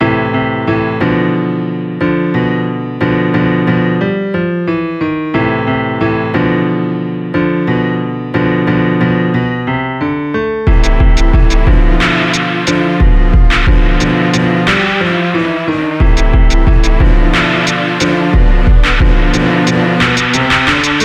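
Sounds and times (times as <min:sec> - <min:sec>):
repeated piano-like phrase: 0:00.0 - 0:21.0.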